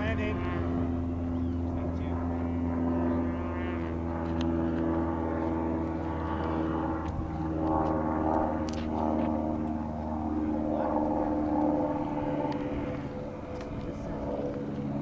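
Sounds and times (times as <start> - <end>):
model airplane engine and propeller: 0.0 - 15.0.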